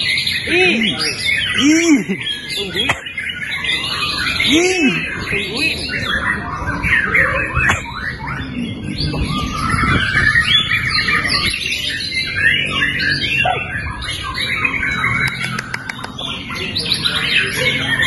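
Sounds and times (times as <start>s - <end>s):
birds singing rapid whistles and trills: 0.0s - 18.0s.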